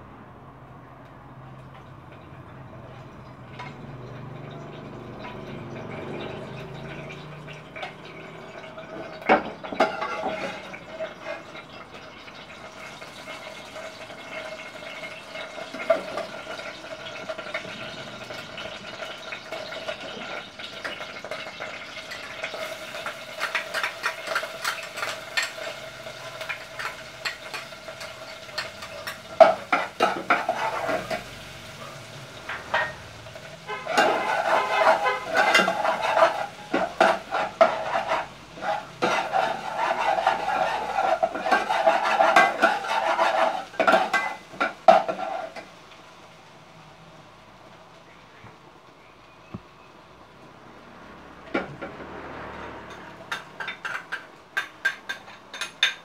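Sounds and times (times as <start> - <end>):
meat frying in oil: 1.1 - 56.0
metal utensils scraping saucepan: 3.5 - 45.7, 51.5 - 56.0.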